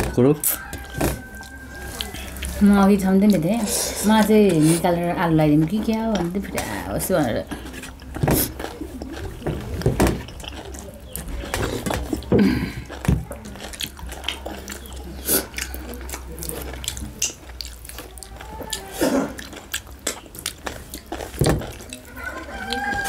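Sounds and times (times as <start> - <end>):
fingers mixing food on metal plate: 0.0 - 23.0
wet chewing and lip smacking: 0.4 - 23.0.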